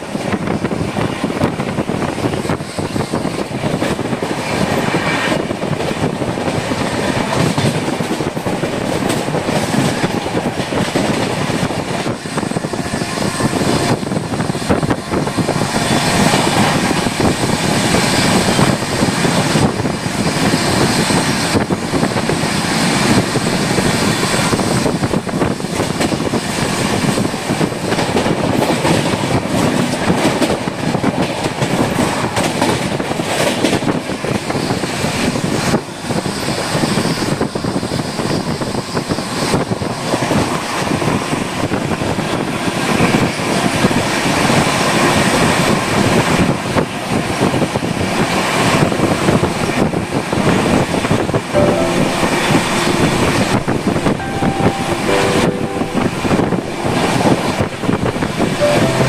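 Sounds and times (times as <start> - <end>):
train wheels rumbling on rails: 0.0 - 51.5.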